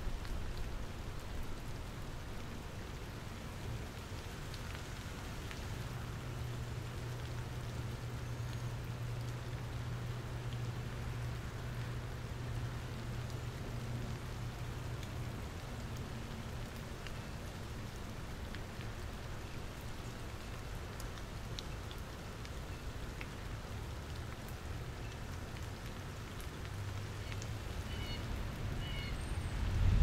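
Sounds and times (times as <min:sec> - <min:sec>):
steady rain with drips: 0:00.0 - 0:30.0.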